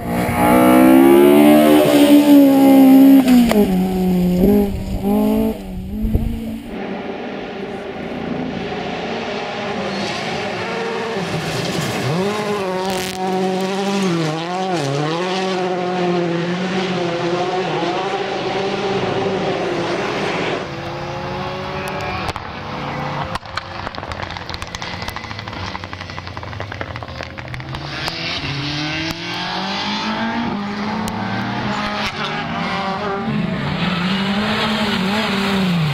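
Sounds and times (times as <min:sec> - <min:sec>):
rally car engine revving: 0:00.0 - 0:35.9.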